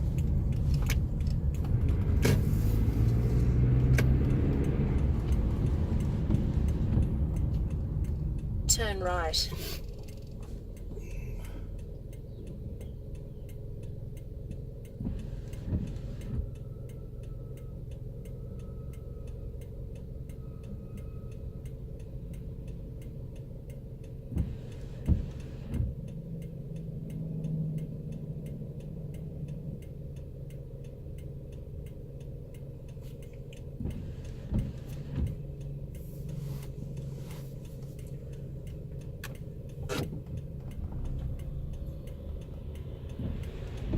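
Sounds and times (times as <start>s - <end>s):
car driving drone: 0.0s - 43.9s
turn indicator ticking: 0.0s - 43.9s.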